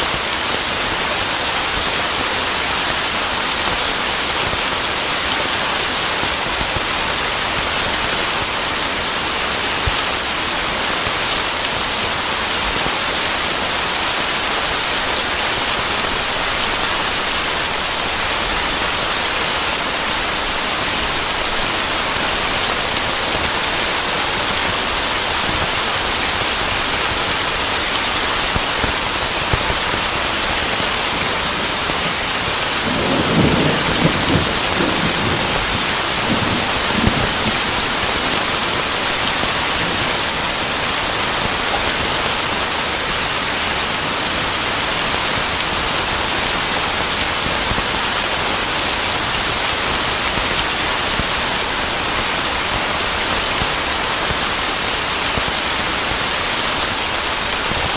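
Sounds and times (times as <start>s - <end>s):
steady rain downpour: 0.0s - 57.9s.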